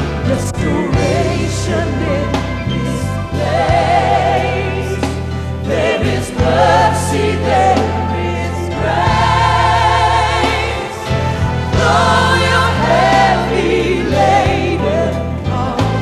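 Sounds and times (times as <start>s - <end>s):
bass and band accompaniment: 0.0s - 16.0s
singers holding vibrato notes: 0.4s - 16.0s.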